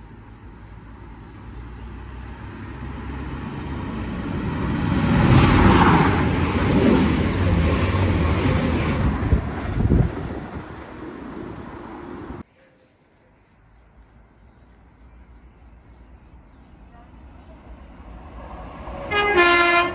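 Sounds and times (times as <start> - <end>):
train passing on rails: 0.1 - 12.8, 16.1 - 19.9.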